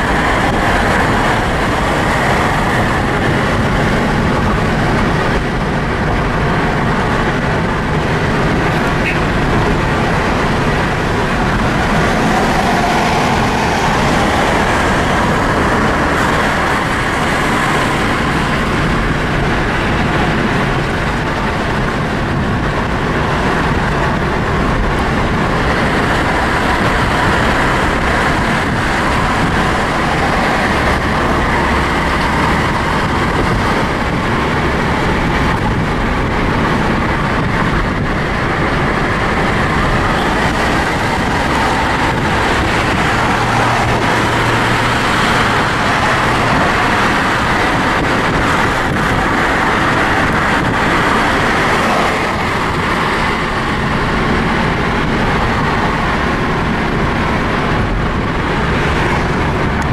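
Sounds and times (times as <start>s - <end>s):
car road noise from inside: 0.0s - 59.9s.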